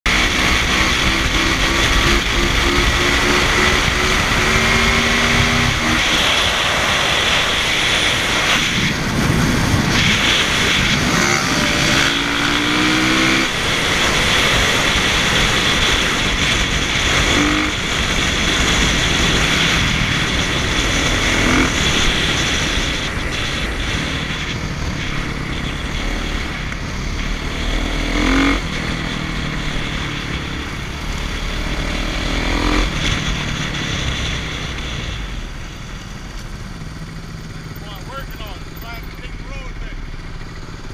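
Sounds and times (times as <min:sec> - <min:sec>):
dirt bike engines revving: 0:00.1 - 0:40.9
steady rushing noise: 0:00.1 - 0:40.9.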